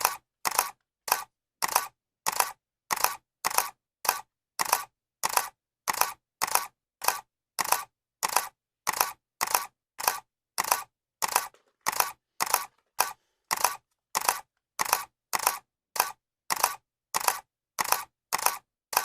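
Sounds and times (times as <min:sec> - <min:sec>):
camera shutter clicking: 0:00.0 - 0:19.0.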